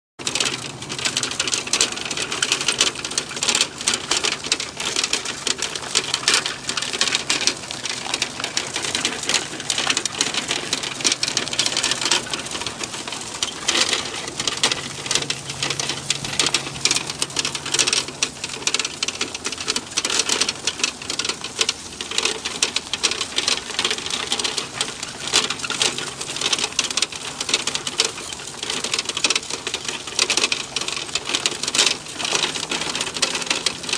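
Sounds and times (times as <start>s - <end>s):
cart rattling and clattering: 0.2s - 33.9s.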